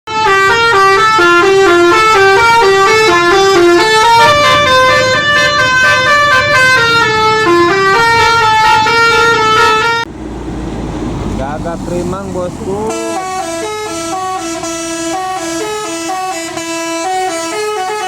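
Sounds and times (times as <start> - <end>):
air horns playing a tune: 0.1 - 10.1, 12.8 - 18.0.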